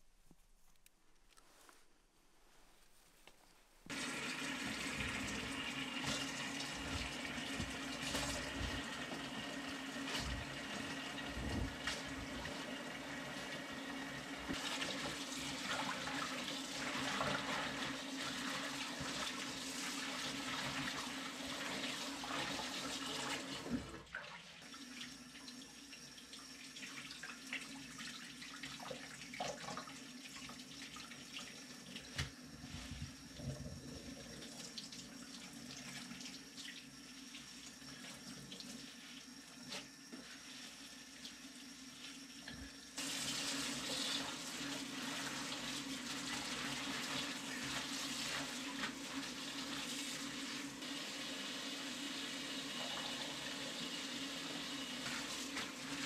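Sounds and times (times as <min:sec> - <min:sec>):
water running: 0:03.8 - 0:56.0.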